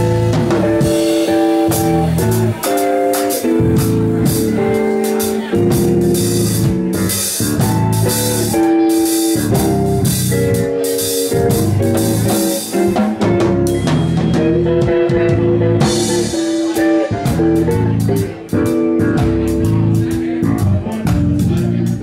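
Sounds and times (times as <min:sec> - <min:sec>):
bass: 0:00.0 - 0:22.0
drum kit played with sticks: 0:00.0 - 0:22.0
electric guitar: 0:00.0 - 0:22.0.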